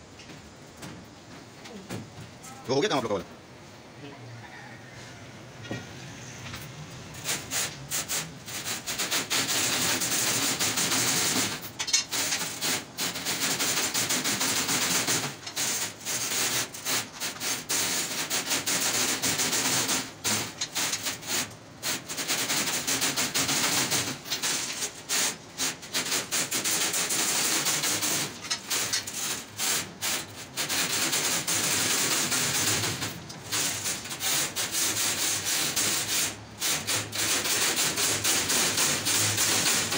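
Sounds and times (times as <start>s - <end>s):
steel wire rasping against mesh: 7.2s - 39.9s.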